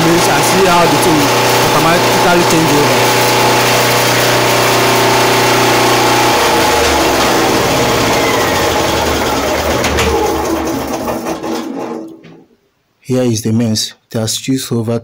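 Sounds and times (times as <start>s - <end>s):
generator engine running: 0.0s - 12.4s.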